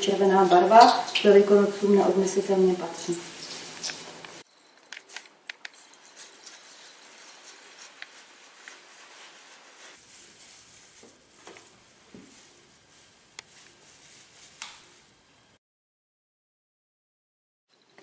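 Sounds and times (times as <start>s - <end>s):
plastic gloves crinkling: 0.0s - 15.6s.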